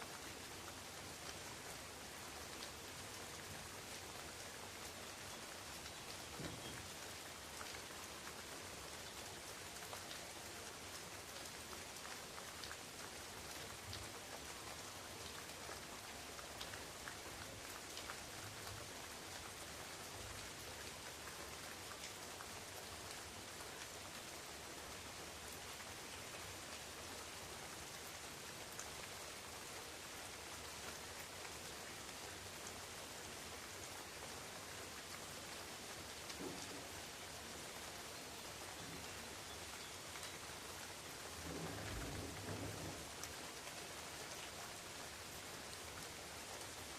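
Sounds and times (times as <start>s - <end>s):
rain falling on leaves: 0.0s - 46.9s.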